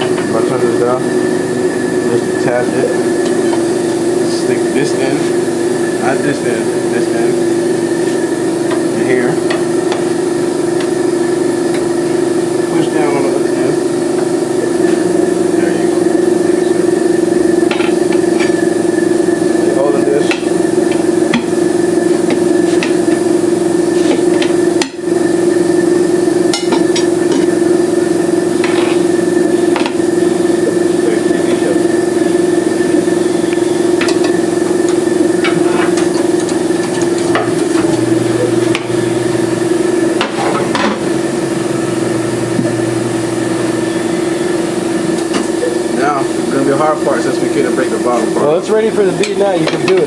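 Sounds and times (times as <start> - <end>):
air compressor humming: 0.0 - 50.0.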